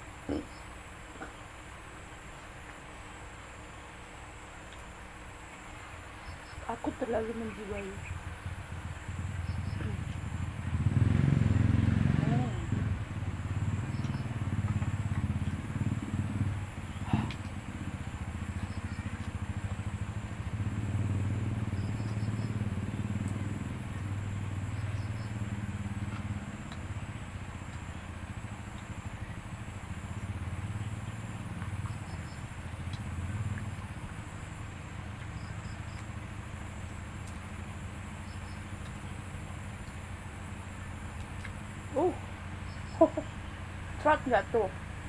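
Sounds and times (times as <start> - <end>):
low engine rumble: 0.0 - 45.0.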